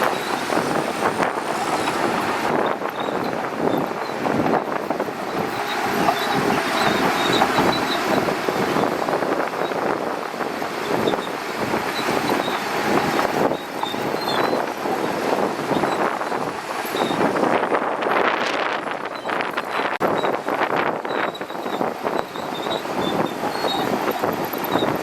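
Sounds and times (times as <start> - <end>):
bulldozer engine and machinery: 0.0 - 25.0.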